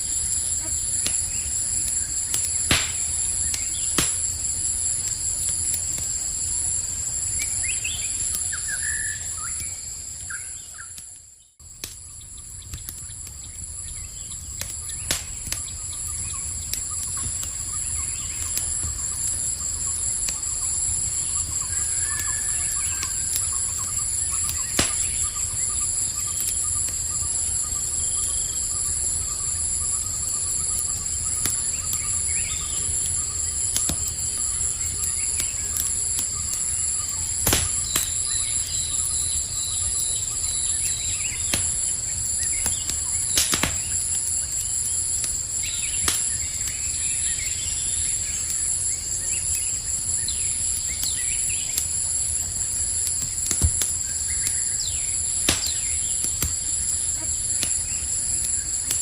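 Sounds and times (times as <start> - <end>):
campfire crackling: 0.0 - 59.0
night insects chorus: 0.0 - 59.0.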